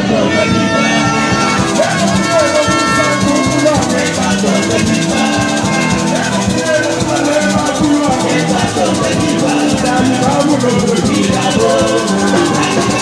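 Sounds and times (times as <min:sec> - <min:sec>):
percussion steady beat: 0:00.0 - 0:13.0
women singing a hymn: 0:00.0 - 0:13.0.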